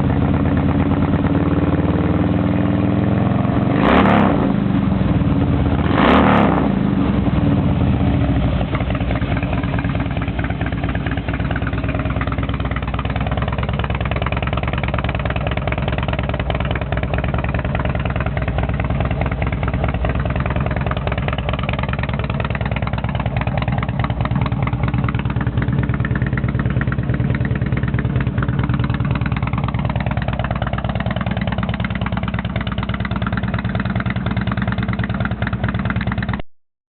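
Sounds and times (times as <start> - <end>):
motorcycle engine idling: 0.0 - 3.8, 4.4 - 6.0, 6.6 - 36.4.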